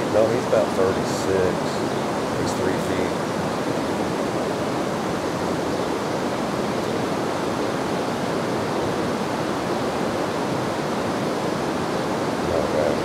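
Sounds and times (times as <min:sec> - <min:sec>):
water running over rocks: 0:00.0 - 0:13.0.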